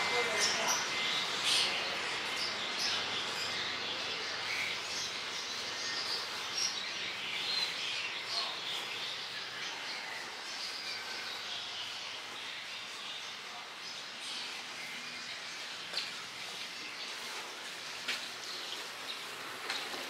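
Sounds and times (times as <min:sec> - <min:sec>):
outdoor street ambience: 0:00.0 - 0:20.0.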